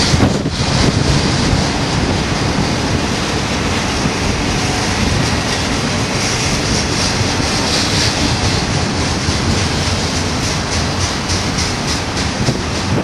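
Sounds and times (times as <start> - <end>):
steel train wheels on rails: 0.0 - 13.0.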